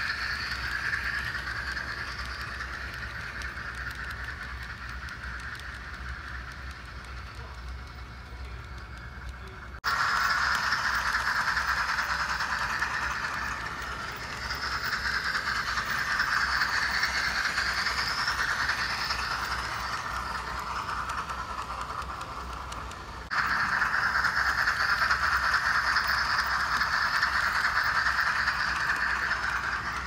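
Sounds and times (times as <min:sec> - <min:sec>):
model steam locomotive chuffing: 0:00.0 - 0:30.0
steam hiss: 0:00.0 - 0:30.0.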